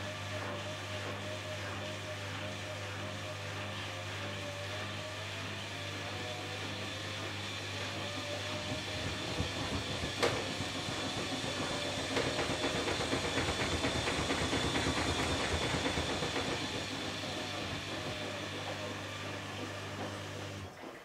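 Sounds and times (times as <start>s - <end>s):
washing machine spinning: 0.0s - 21.0s.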